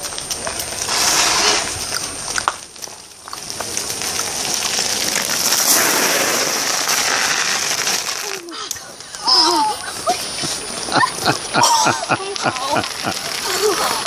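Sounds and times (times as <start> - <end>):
bicycle tyres rolling on tarmac: 0.0 - 14.0.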